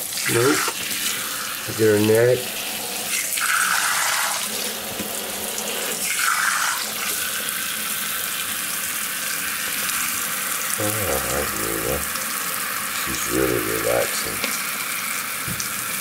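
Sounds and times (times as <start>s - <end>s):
sink sprayer hissing: 0.0s - 16.0s.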